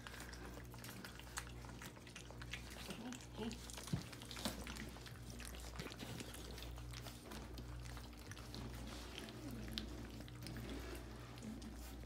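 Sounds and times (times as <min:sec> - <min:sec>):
puppies lapping from metal pan: 0:00.0 - 0:12.0.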